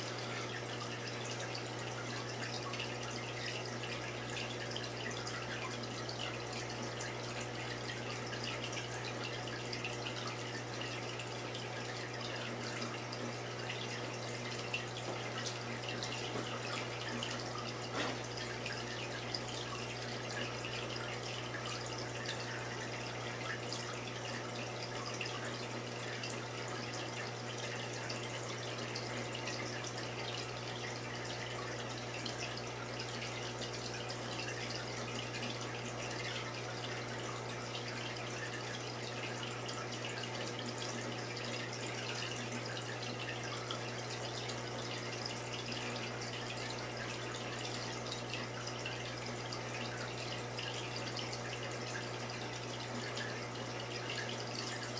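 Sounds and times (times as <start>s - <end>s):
aquarium pump humming: 0.0s - 54.9s
water trickling and dripping: 0.0s - 54.9s.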